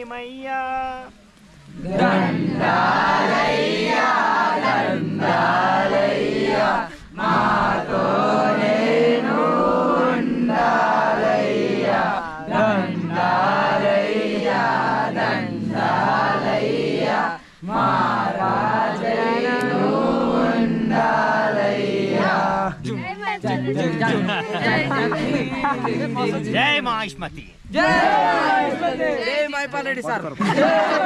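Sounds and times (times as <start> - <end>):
male chorus singing: 1.7 - 26.9, 27.8 - 31.0.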